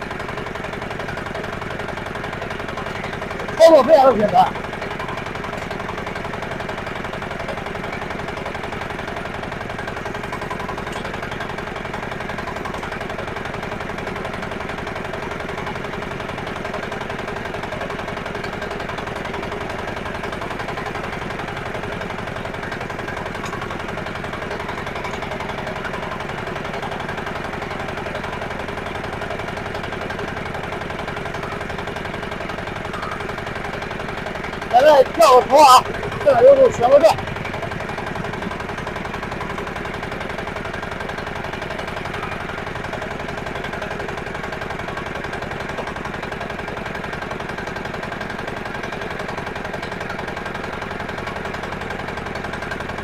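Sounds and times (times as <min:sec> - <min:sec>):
diesel engine running with knock: 0:00.0 - 0:53.0.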